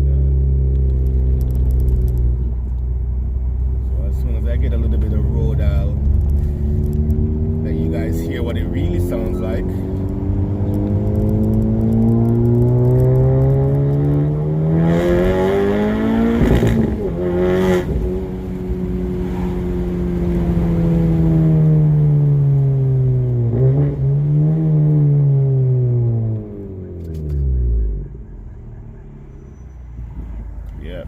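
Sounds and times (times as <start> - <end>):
car engine accelerating and cruising: 0.0 - 31.0.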